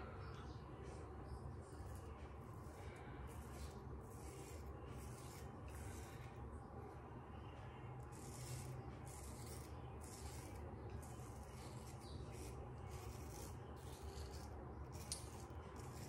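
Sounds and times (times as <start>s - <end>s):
razor scraping stubble: 1.3s - 6.6s, 7.6s - 16.0s.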